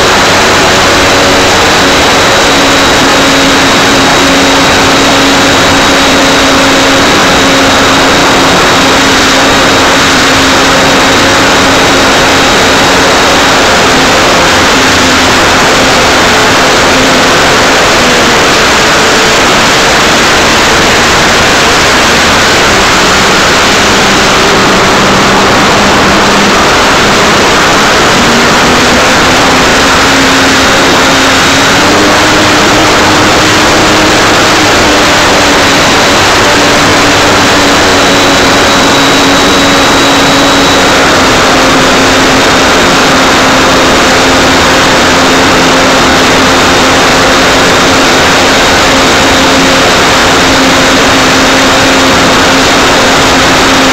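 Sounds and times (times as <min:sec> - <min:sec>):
model plane electric motor and propeller: 0:00.0 - 0:53.9
wind rush on microphone: 0:00.0 - 0:53.9.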